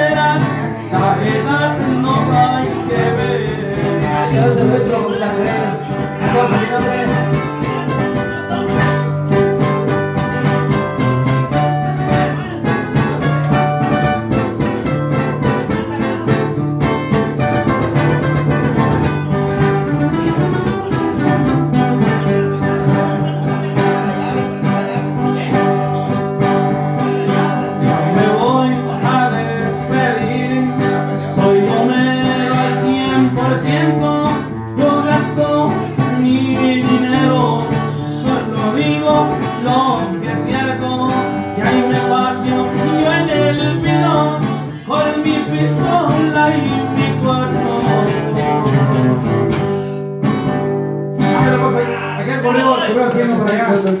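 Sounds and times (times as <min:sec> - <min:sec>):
acoustic guitars playing: 0:00.0 - 0:54.0.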